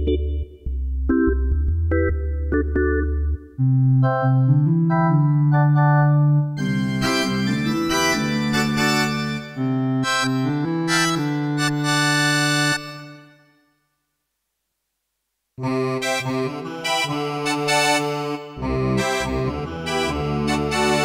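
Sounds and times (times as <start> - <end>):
electronic keyboard organ-like chords: 0.0 - 13.5, 15.6 - 21.0.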